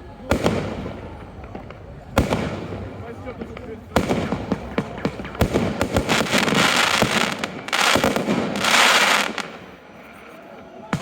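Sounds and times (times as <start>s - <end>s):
fireworks bangs and cracks: 0.0s - 11.0s
fireworks hissing crackle: 0.0s - 11.0s.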